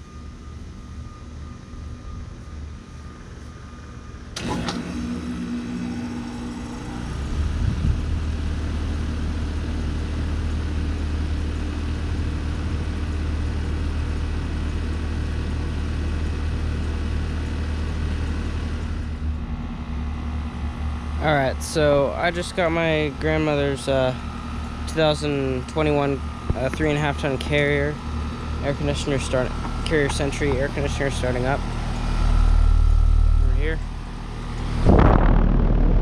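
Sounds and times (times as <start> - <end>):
air conditioner humming: 0.0 - 36.0.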